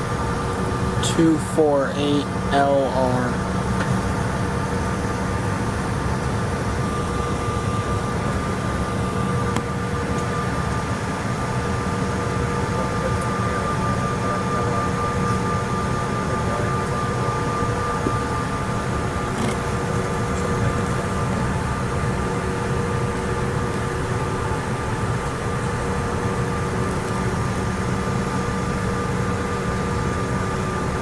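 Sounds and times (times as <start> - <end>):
jet engine rumble: 0.0 - 31.0
steady whine: 0.0 - 31.0.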